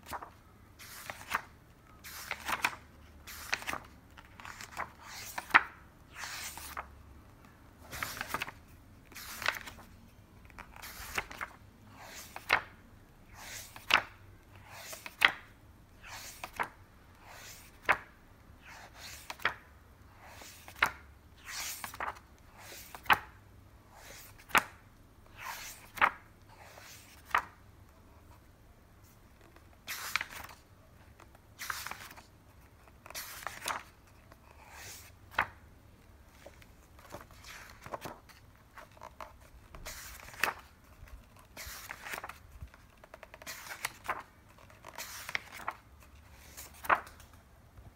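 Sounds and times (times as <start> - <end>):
book pages turning: 0.0 - 6.9, 7.8 - 12.7, 13.3 - 15.4, 16.0 - 18.1, 18.7 - 19.6, 20.2 - 23.3, 24.0 - 24.7, 25.4 - 27.6, 29.0 - 30.6, 31.2 - 35.6, 36.3 - 47.4.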